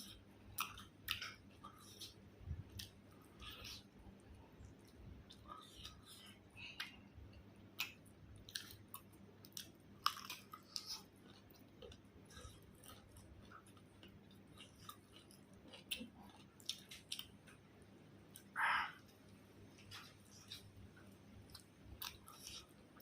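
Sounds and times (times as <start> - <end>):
chewing and biting food: 0.0 - 18.6, 19.8 - 23.0
faint steady hum: 0.0 - 23.0.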